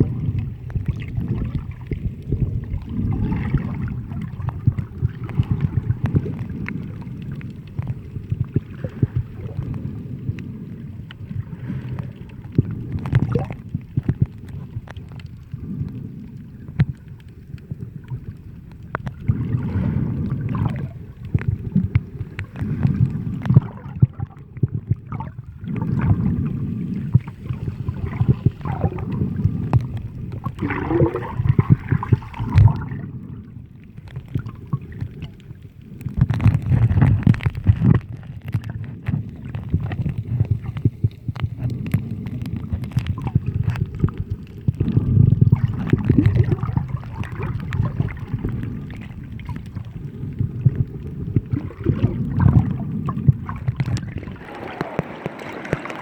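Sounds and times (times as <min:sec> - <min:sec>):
sea water sloshing and gurgling: 0:00.0 - 0:56.0
small clicks and pops: 0:00.3 - 0:26.5, 0:27.1 - 0:56.0.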